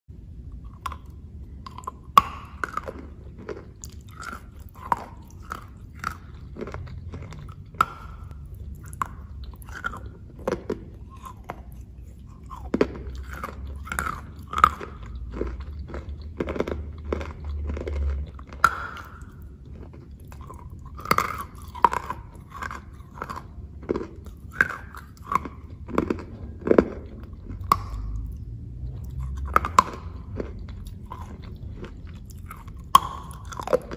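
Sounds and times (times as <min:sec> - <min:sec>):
biting and chewing pastry: 0:00.4 - 0:33.9.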